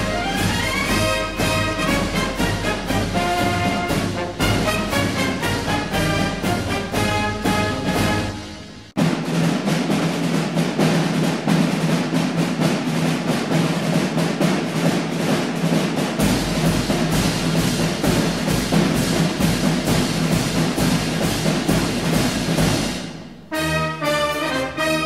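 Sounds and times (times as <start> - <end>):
fast percussion music: 0.0 - 25.0.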